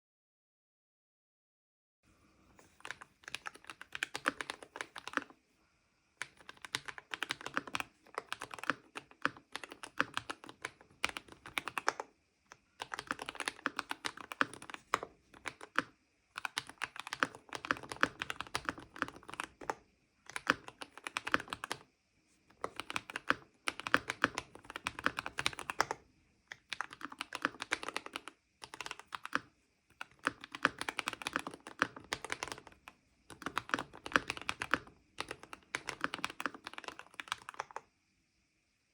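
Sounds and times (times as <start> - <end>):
mechanical keyboard typing: 2.8 - 5.4, 6.2 - 21.9, 22.5 - 37.8.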